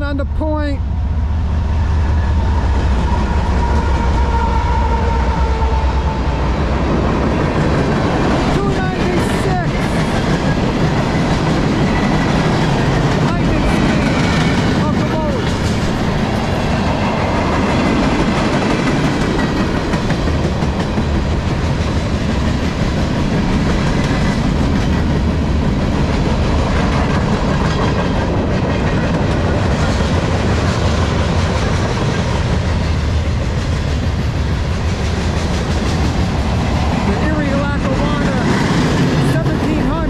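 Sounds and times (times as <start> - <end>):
freight train wheels on rails: 0.8 - 40.0.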